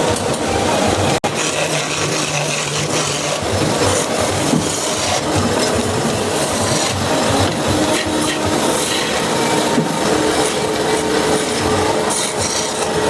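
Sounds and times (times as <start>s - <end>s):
hand tool scraping wood: 1.2s - 13.0s.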